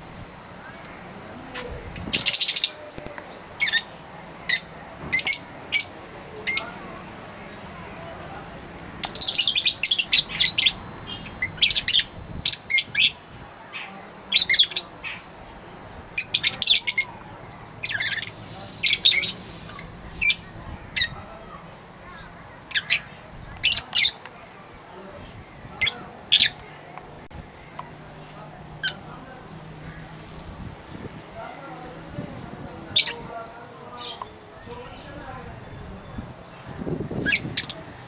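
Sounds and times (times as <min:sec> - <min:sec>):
lovebirds chirping: 0:00.6 - 0:38.0.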